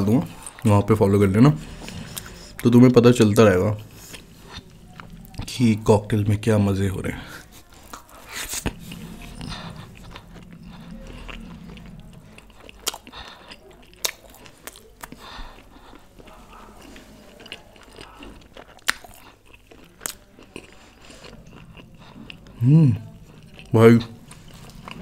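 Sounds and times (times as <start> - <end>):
chewing with wet mouth sounds: 0.0 - 25.0.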